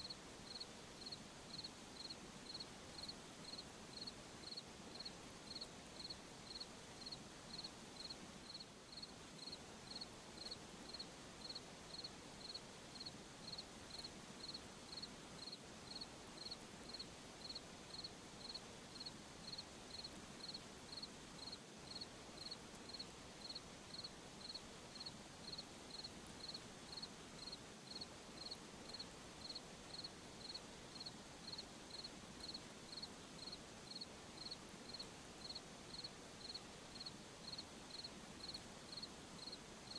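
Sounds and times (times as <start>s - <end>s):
cricket chirping: 0.0s - 39.9s
faint steady hiss: 0.0s - 39.9s.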